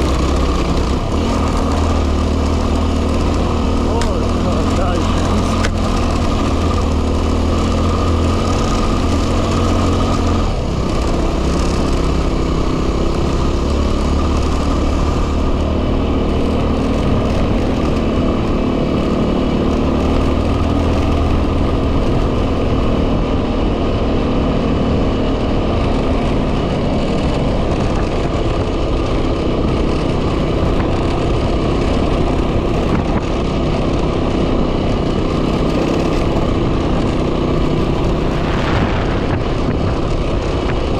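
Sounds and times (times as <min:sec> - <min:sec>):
motorcycle engine running: 0:00.0 - 0:40.9
wind noise on microphone: 0:04.8 - 0:40.9.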